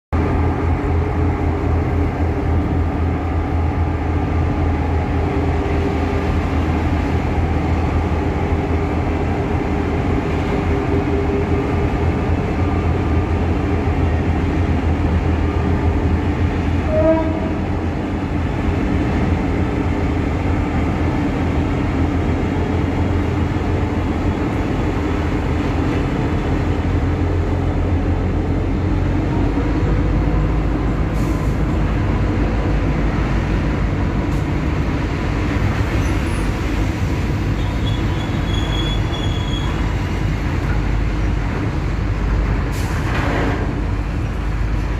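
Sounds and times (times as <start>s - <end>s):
diesel locomotive drone: 0.1s - 44.9s.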